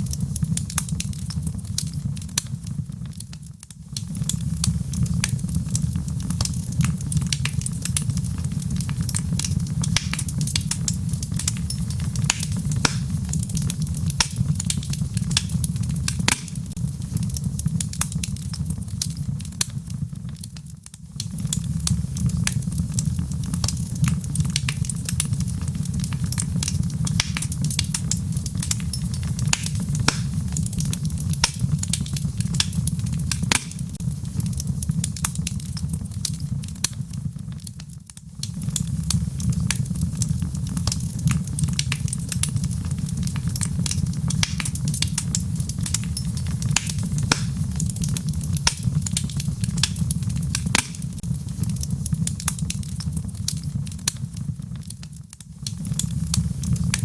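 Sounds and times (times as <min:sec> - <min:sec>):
fire crackling and popping: 0:00.0 - 0:57.0
logs burning in fireplace: 0:00.0 - 0:57.0.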